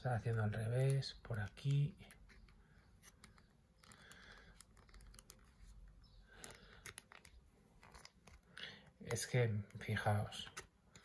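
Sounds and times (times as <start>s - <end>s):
hard plastic clicking and rubbing: 0.1s - 11.0s.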